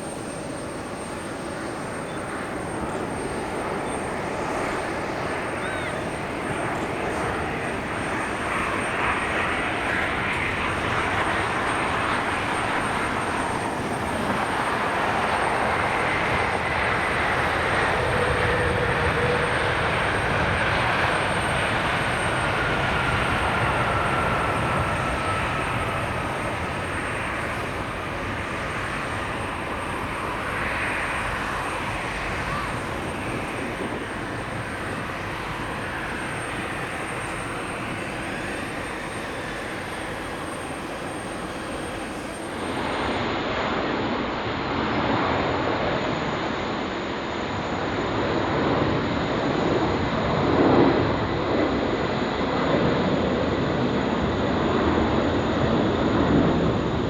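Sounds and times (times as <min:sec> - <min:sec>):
jet airliner passing: 0:00.0 - 0:57.0
jet engine whine: 0:00.0 - 0:57.0.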